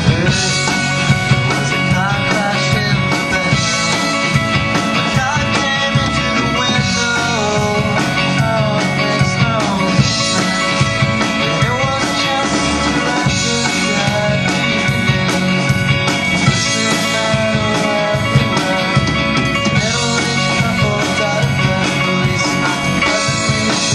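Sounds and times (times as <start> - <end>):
rock band playing live: 0.0 - 23.9.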